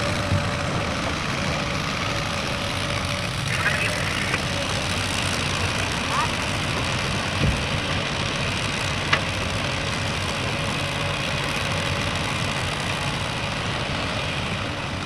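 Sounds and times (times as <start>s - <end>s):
diesel engine running at low revs: 0.0s - 15.0s.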